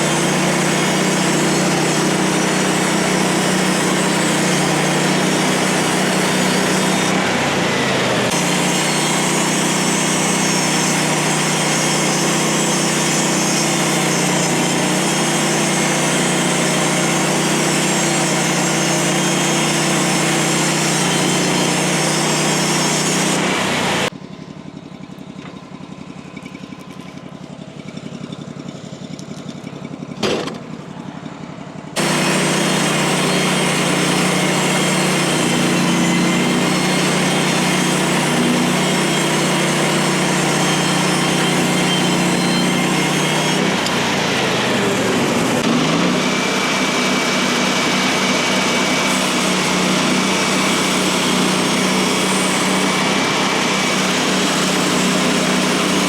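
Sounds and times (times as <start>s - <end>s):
bandsaw mill cutting log: 0.0s - 24.2s, 30.2s - 31.0s, 31.9s - 56.0s.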